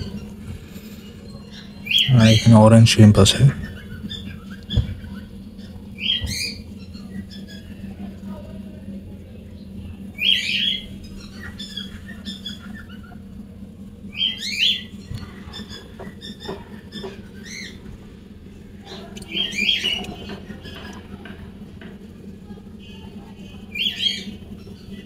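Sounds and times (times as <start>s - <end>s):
weak bird chirps: 0.0s - 8.0s, 9.4s - 18.0s, 18.7s - 21.1s, 22.7s - 25.0s
steady low hum: 0.0s - 25.0s.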